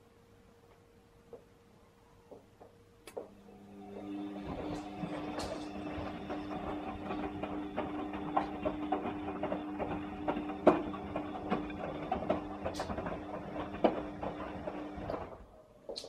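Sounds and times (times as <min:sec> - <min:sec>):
washing machine humming: 0:02.3 - 0:16.0.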